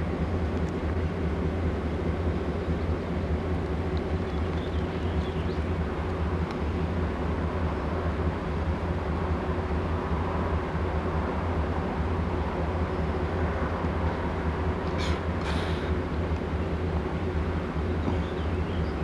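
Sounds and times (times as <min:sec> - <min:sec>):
faint constant hum: 0:00.0 - 0:19.0
train rumbling: 0:00.0 - 0:19.0.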